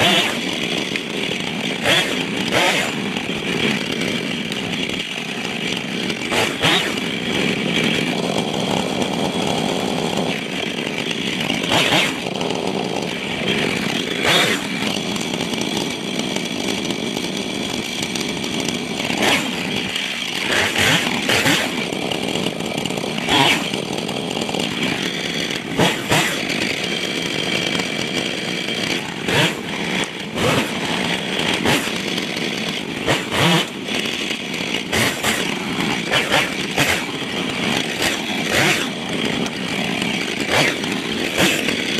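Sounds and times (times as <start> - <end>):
chainsaw cutting wood: 0.0 - 41.9
sharp wood cracks: 0.0 - 41.9.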